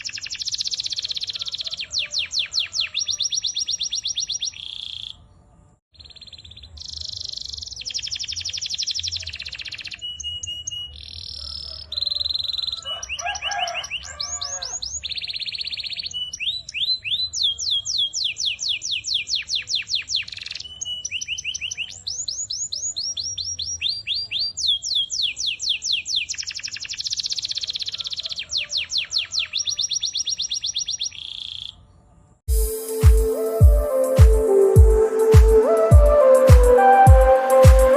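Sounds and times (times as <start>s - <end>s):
canary singing trills: 0.0s - 5.3s, 6.0s - 33.0s.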